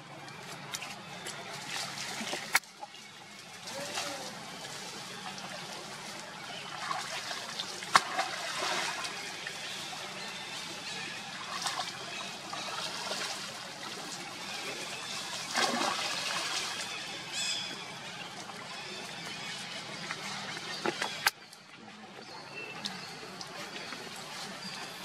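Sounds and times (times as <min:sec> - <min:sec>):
water splashing and trickling: 0:00.0 - 0:25.0.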